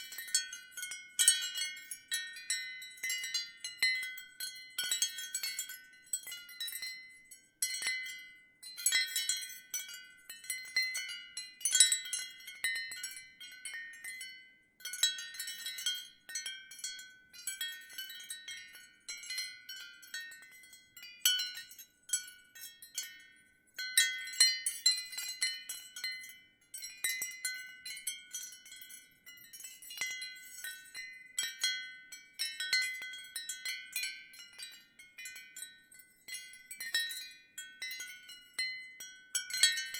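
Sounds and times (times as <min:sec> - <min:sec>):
ceramic wind chimes clinking: 0:00.0 - 0:39.9.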